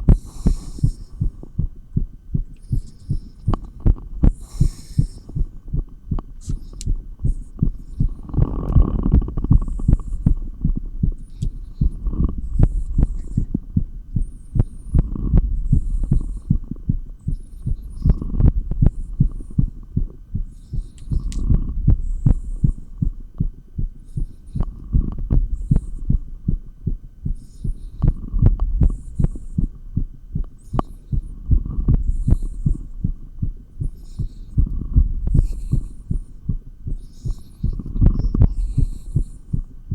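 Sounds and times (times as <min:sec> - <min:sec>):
fast heartbeat through stethoscope: 0:00.0 - 0:39.9.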